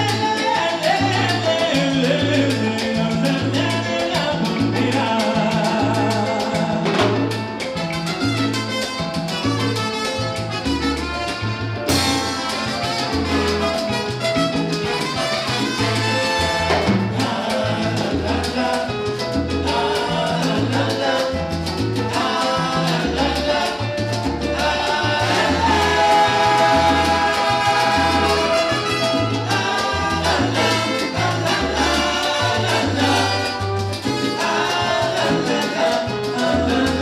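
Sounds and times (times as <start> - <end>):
salsa band playing live: 0.0 - 37.0.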